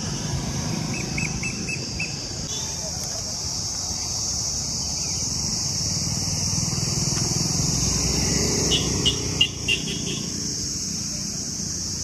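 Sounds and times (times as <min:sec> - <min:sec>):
vehicle rumbling past: 0:00.0 - 0:12.0
high-pitched insect drone: 0:00.1 - 0:12.0.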